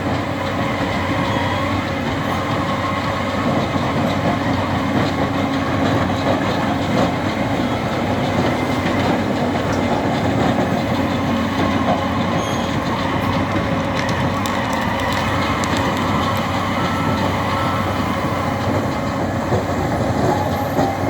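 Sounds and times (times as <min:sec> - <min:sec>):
loader engine running: 0:00.0 - 0:21.0.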